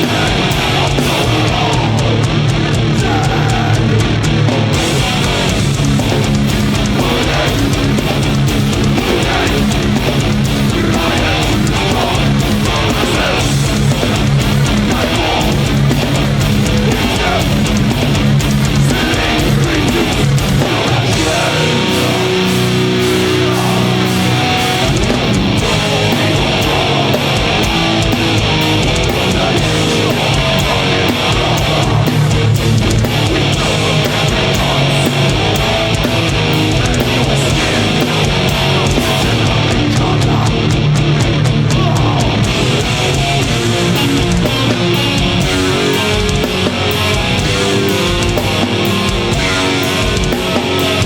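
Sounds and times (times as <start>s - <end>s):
bass guitar: 0.0s - 51.0s
distorted electric guitars: 0.0s - 51.0s
fast drumming: 0.0s - 51.0s.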